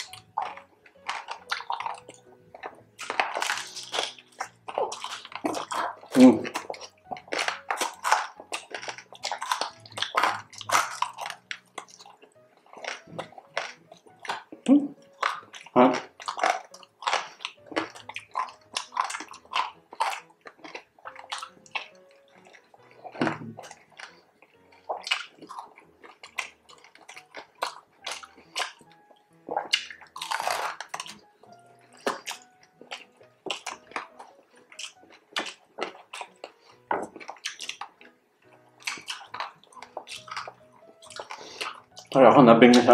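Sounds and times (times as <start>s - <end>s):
crispy food being chewed: 0.0s - 42.9s
wet mouth clicks and smacks: 0.0s - 42.9s.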